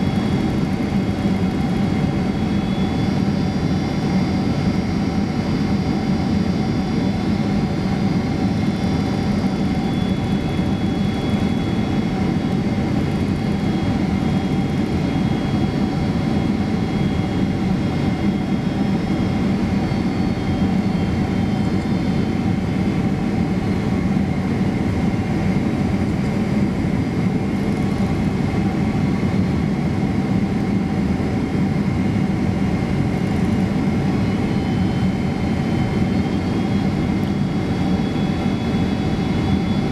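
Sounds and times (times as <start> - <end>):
jet engine hum: 0.0 - 39.9.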